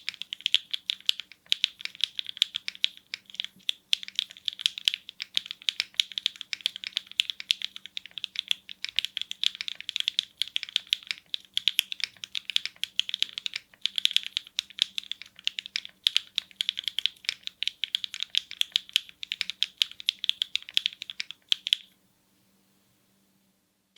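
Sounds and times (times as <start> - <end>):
fast mechanical keyboard typing: 0.0 - 21.9.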